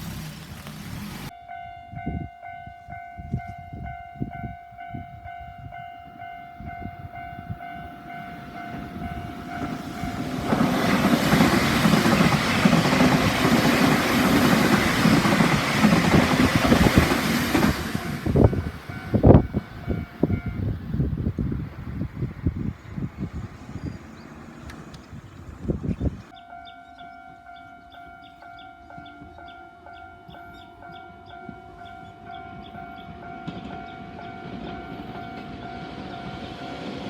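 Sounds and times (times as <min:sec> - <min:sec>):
train passing with rail noise: 0:00.0 - 0:37.0
level crossing warning bell: 0:01.3 - 0:20.8, 0:26.3 - 0:37.0.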